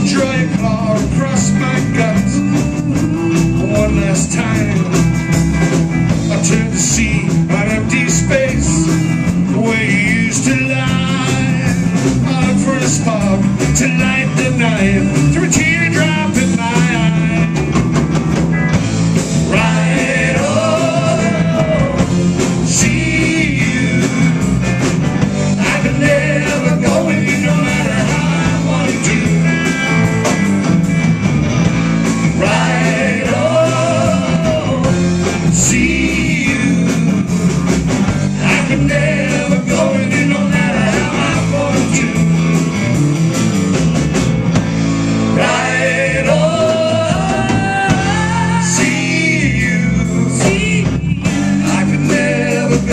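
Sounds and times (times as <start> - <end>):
person singing lead vocal: 0.0 - 5.0, 6.2 - 17.7, 19.4 - 24.6, 25.5 - 30.0, 32.3 - 37.4, 38.3 - 42.4, 45.3 - 52.9
bass guitar: 0.0 - 52.9
drum kit: 0.0 - 52.9
electric guitars: 0.0 - 52.9.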